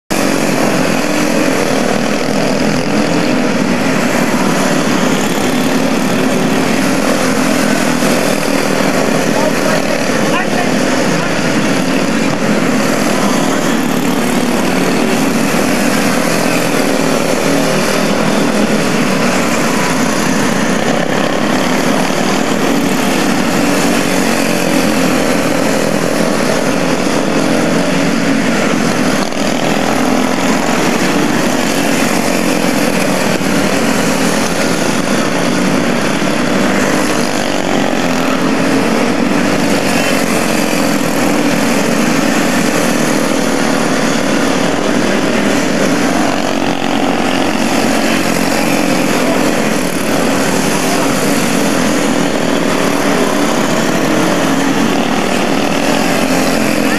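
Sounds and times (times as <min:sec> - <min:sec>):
small race car engines droning: 0:00.0 - 0:56.9.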